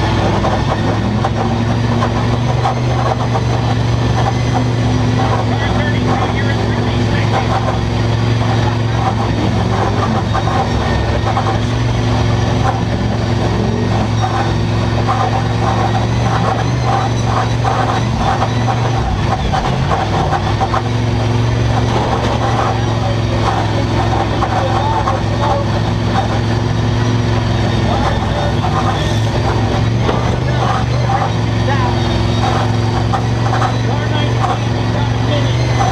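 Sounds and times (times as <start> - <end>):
car engines revving: 0.0 - 35.9
low engine drone: 0.0 - 35.9.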